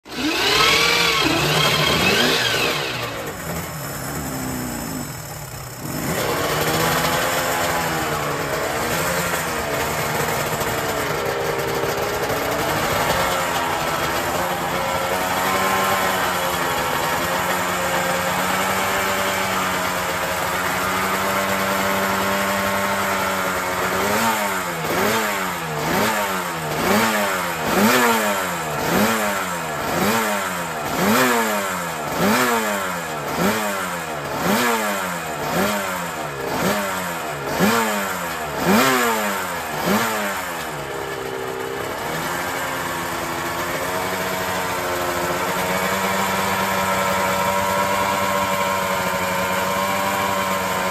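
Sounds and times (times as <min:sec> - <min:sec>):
racing engine revving: 0:00.0 - 0:50.9.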